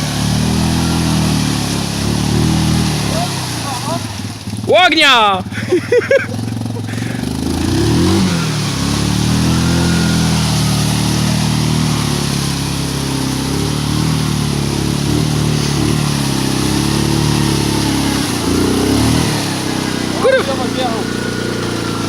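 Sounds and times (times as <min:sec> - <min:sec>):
atv engine revving under load: 0:00.0 - 0:22.0.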